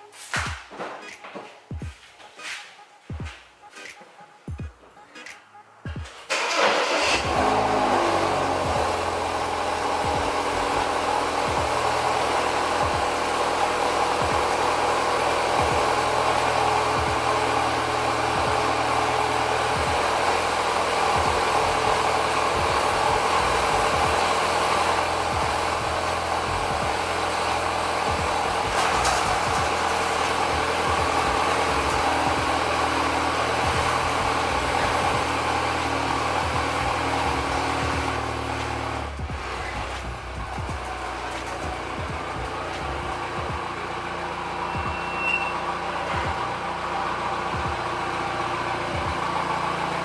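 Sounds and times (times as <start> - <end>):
car engine starting and idling: 5.7 - 50.0.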